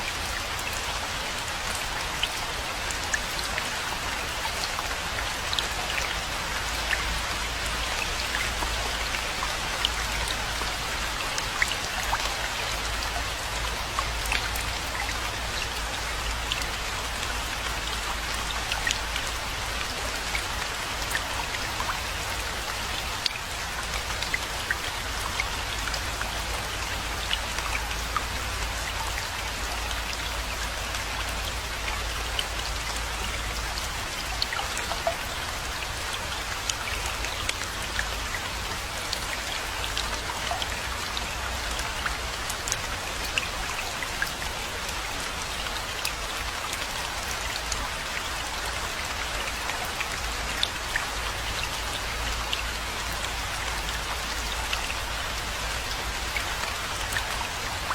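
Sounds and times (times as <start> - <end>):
raindrops ticking close by: 0.0 - 57.9
steady rainfall hiss: 0.0 - 57.9.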